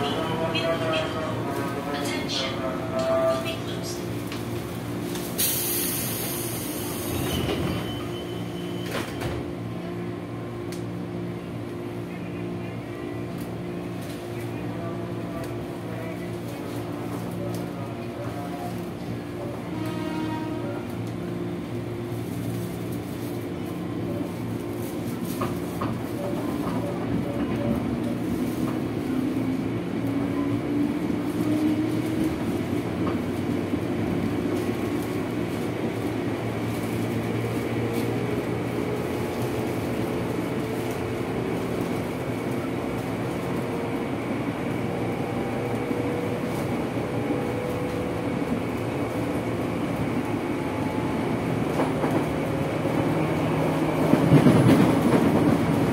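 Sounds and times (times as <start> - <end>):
wheels rumbling on rails: 0.0 - 55.9.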